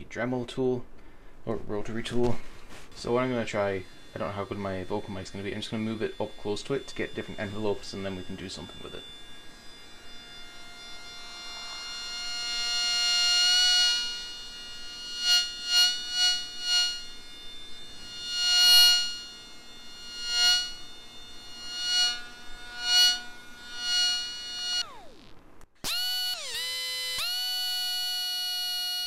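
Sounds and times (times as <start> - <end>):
buzzy electromagnetic motor whine: 1.8 - 29.0.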